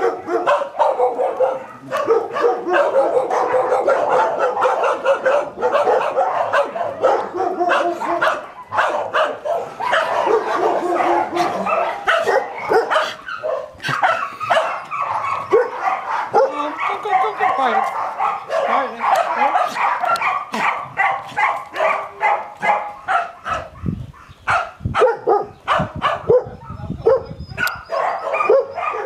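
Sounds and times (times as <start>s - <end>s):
many dogs barking and yipping: 0.0s - 29.0s.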